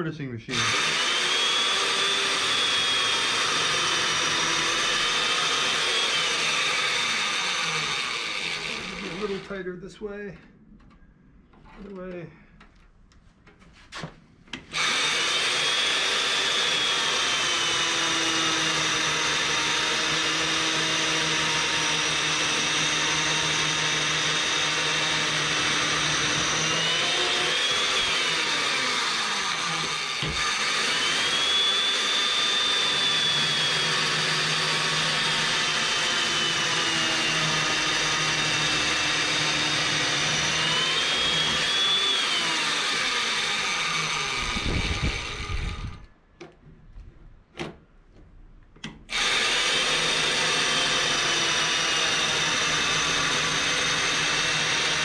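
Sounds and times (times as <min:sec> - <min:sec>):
chain mortiser cutting wood: 0:00.5 - 0:09.7, 0:14.5 - 0:46.6, 0:48.8 - 0:55.0.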